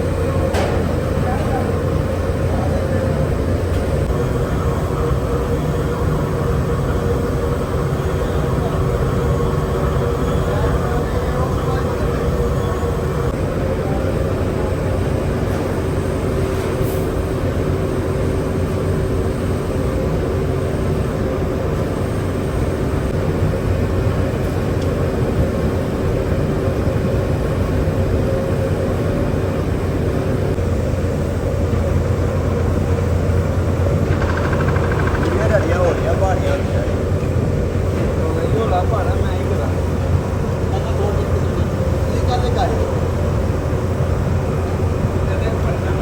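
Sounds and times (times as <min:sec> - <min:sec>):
factory machinery humming: 0:00.0 - 0:46.0.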